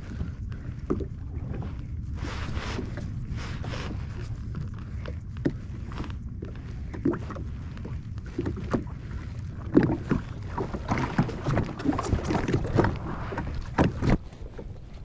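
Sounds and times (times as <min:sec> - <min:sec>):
waves slapping against hull: 0:00.0 - 0:15.0
wind rumbling on microphone: 0:00.0 - 0:15.0.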